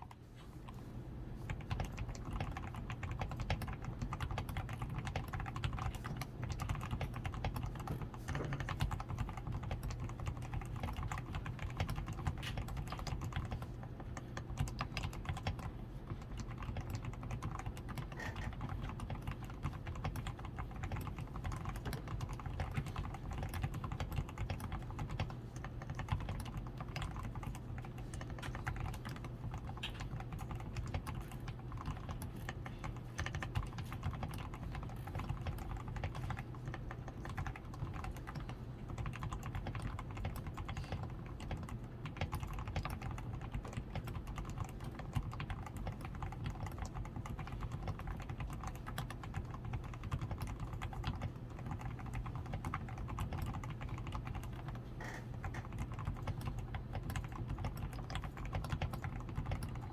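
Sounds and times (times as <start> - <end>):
fast typing on mechanical keyboard: 1.4 - 59.9.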